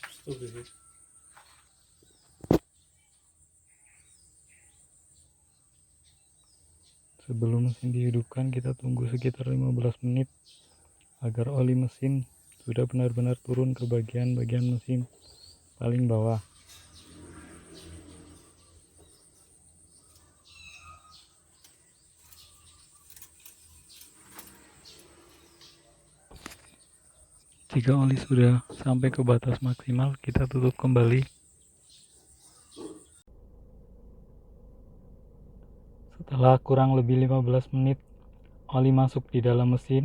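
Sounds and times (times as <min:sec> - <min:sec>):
distant bird chirps: 0:00.0 - 0:40.0.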